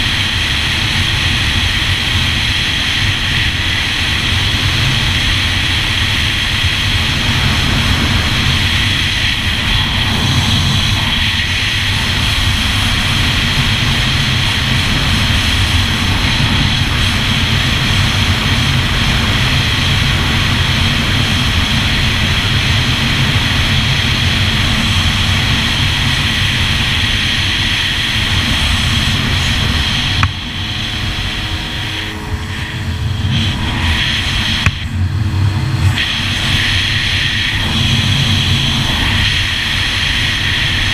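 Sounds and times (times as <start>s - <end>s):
jet ski engine drone: 0.0s - 40.9s.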